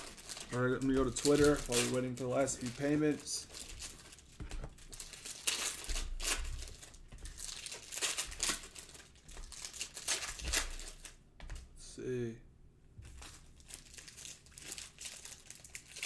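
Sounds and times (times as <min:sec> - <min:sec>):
plastic wrappers crinkling: 0:00.0 - 0:11.6, 0:13.0 - 0:16.0.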